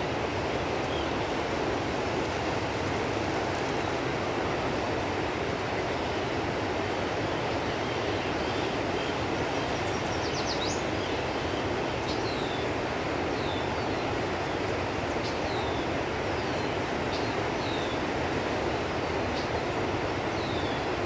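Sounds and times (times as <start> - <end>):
fast-flowing river water: 0.0 - 21.0.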